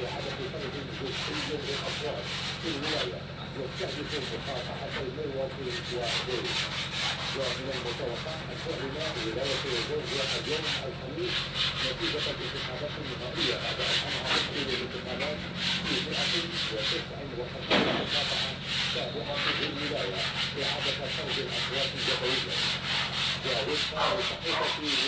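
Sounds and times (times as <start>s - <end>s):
sandpaper rubbing on wood: 0.0s - 25.0s.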